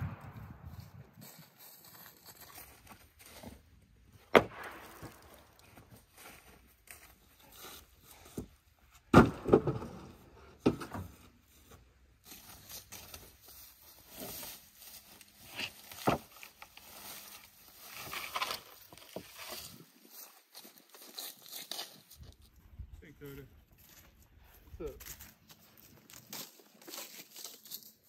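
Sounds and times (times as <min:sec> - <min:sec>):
rustling dry grass and leaves: 0:00.0 - 0:09.0, 0:11.0 - 0:28.0.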